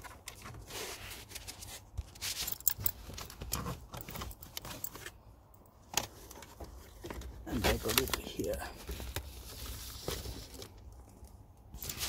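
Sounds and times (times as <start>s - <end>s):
plastic trim scraping and rustling: 0.0s - 5.2s, 6.0s - 10.8s.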